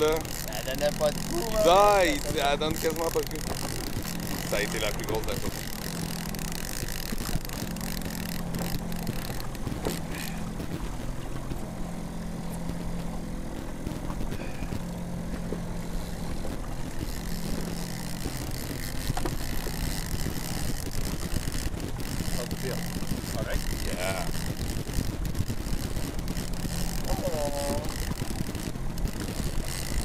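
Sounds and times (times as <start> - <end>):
boat motor humming: 0.0 - 30.0.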